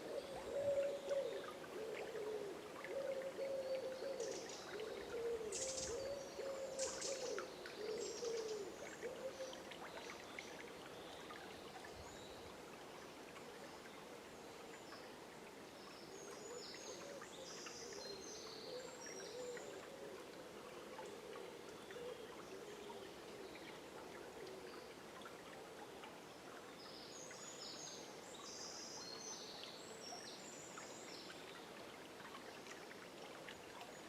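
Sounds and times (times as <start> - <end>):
river running: 0.0 - 34.0.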